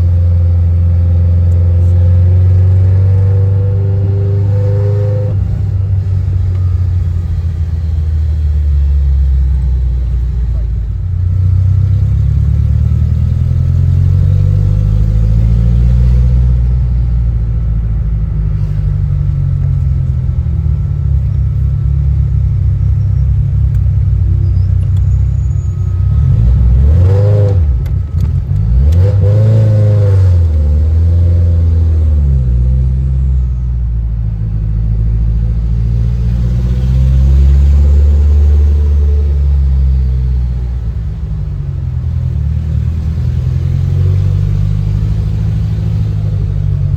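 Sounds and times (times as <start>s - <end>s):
car engine accelerating and revving: 0.0s - 17.4s, 18.6s - 33.6s, 34.8s - 46.9s.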